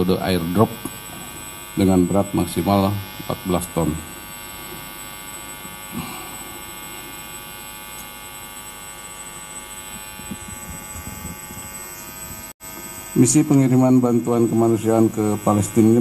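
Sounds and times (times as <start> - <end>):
steady buzzing hum: 0.0 - 16.0.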